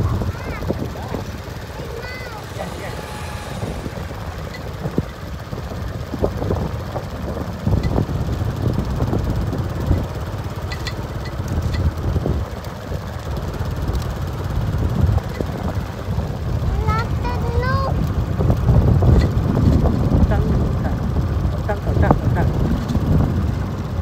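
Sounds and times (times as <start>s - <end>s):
vehicle engine rumble: 0.0s - 24.0s
wind buffeting microphone: 0.0s - 24.0s.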